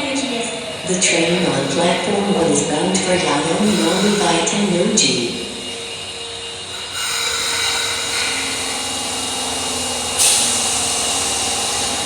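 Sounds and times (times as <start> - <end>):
loud air hiss: 0.0 - 12.0
subway train running noise: 0.0 - 12.0.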